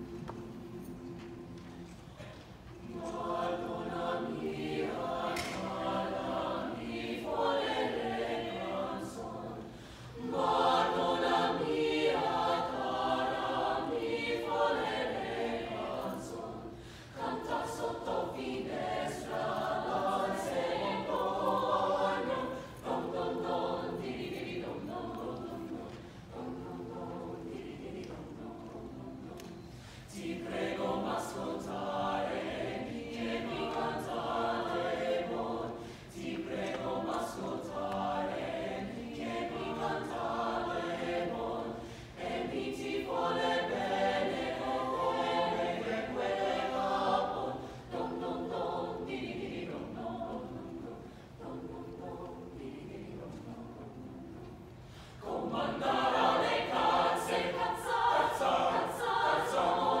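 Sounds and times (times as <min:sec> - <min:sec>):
mixed choir singing in parts: 0:00.0 - 1:00.0.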